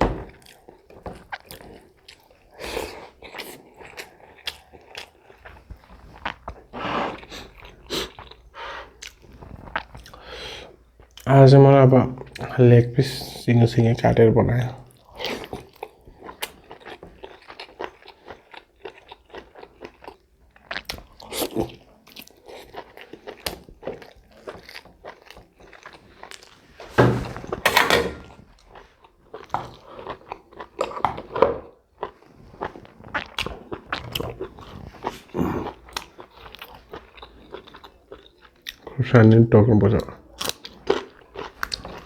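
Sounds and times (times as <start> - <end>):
person chewing food: 0.0 - 11.3, 14.6 - 39.0, 39.9 - 42.0.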